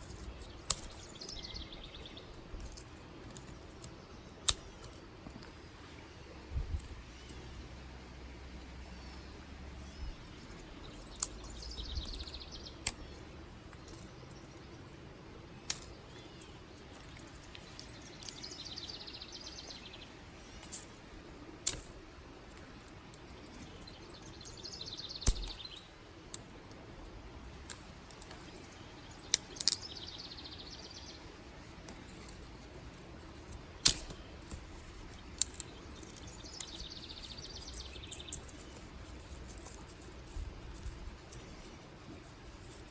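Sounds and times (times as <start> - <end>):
bird trilled song: 0.0 - 7.8, 8.6 - 15.0, 15.6 - 21.8, 22.5 - 42.9
dry sticks snapping: 0.0 - 42.9.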